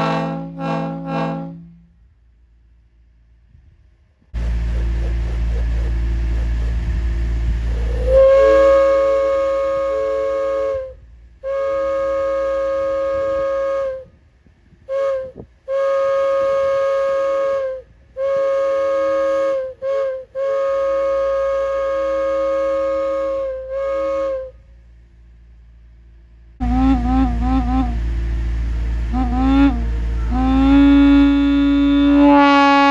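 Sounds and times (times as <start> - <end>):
train air horn blasts: 0.0 - 2.1, 4.4 - 24.9, 26.6 - 32.9.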